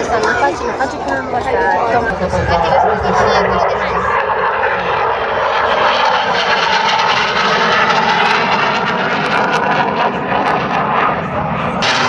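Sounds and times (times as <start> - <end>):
aircraft flying by: 0.0 - 12.0.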